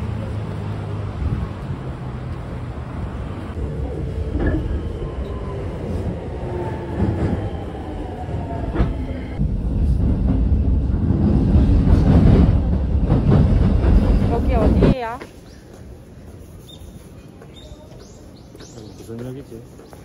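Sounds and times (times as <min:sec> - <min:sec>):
passing train rumble and clatter: 0:00.0 - 0:20.0.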